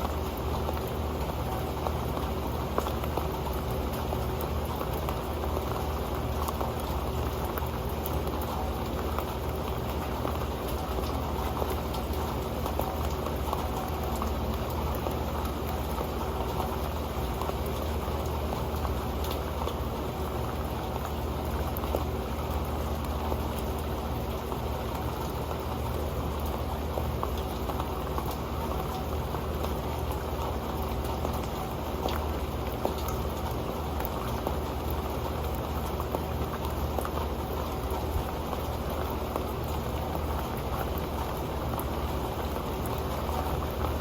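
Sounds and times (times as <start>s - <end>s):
rain pattering on a pan: 0.0s - 44.0s.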